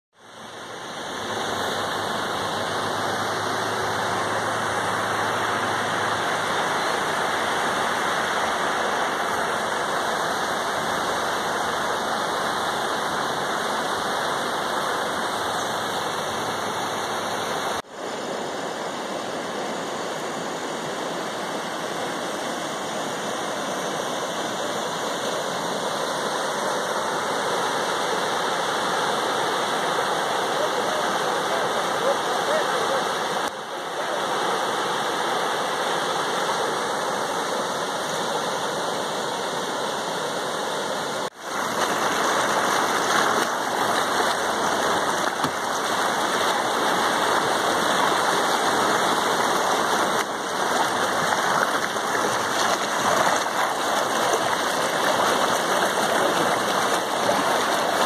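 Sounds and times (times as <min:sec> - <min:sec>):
river floodwater rushing: 0:00.2 - 0:58.0.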